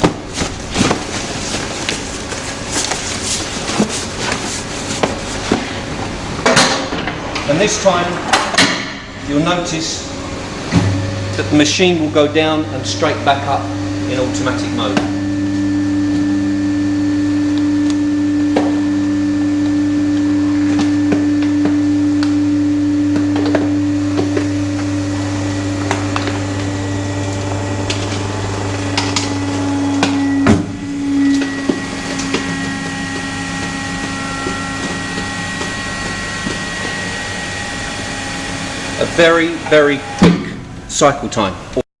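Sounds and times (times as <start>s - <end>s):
hydraulic power pack humming: 0.0s - 41.8s.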